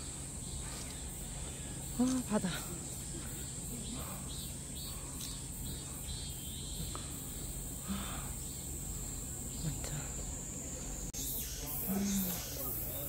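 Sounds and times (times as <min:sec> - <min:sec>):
insects droning in trees: 0:00.0 - 0:13.0.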